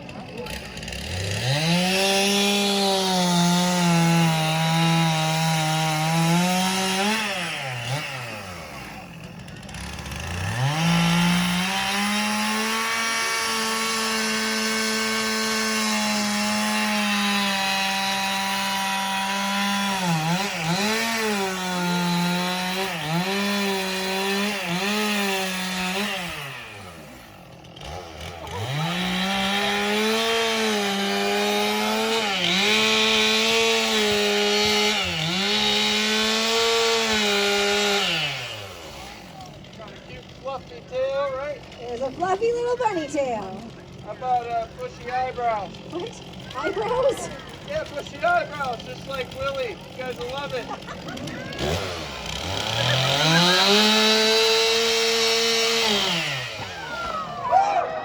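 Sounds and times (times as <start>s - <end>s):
chainsaw carving wood: 0.0s - 58.0s.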